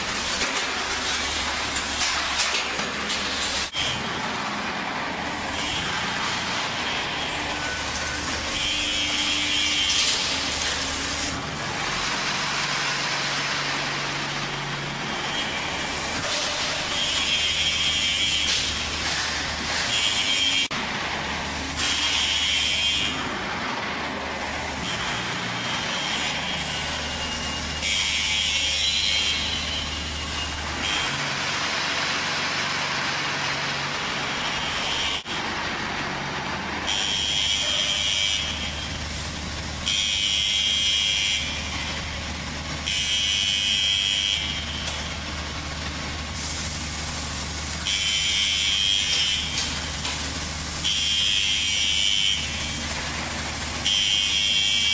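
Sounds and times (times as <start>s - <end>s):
machinery humming: 0.0s - 54.9s.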